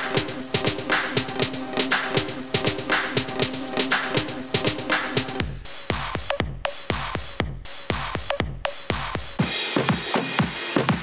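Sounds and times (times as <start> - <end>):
electronic dance music: 0.0 - 11.0
steady kick drum: 0.0 - 11.0.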